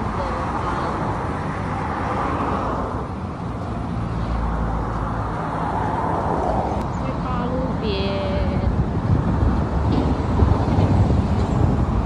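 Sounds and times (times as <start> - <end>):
cars passing: 0.0 - 12.0
deep traffic rumble: 0.0 - 12.0.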